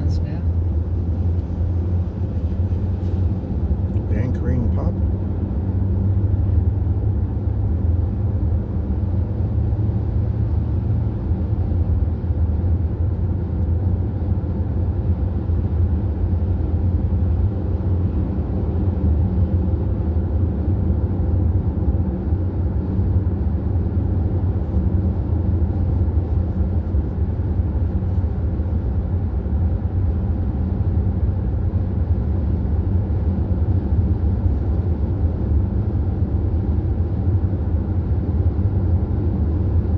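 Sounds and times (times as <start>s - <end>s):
vehicle road and engine drone: 0.0s - 39.9s.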